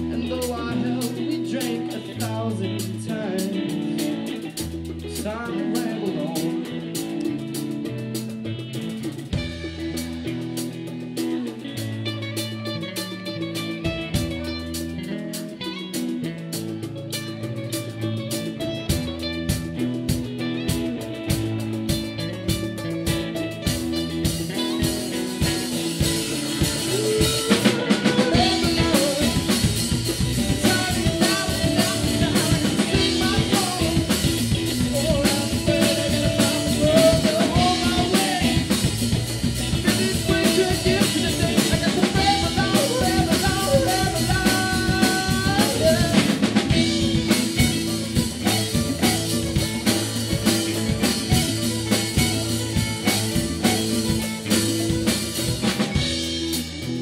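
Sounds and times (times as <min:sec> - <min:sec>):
rock band playing: 0:00.0 - 0:57.0
wavering lead melody: 0:05.3 - 0:57.0.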